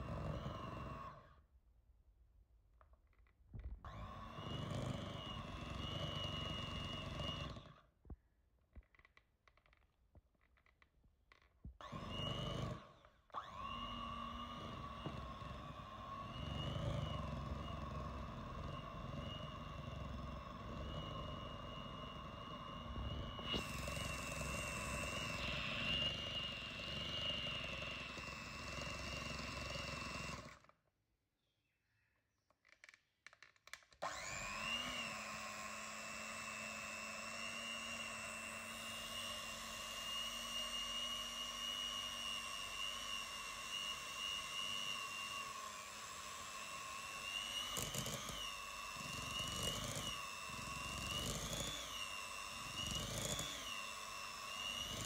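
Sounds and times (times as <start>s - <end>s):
electric mixer whine: 0.0s - 1.4s, 3.6s - 7.8s, 11.7s - 30.7s, 34.0s - 55.0s.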